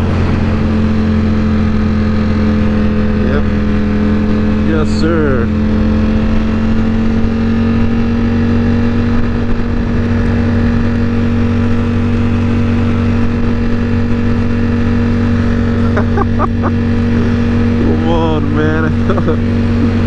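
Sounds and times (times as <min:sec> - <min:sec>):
motorcycle engine cruising: 0:00.0 - 0:20.0
road and wind noise: 0:00.0 - 0:20.0.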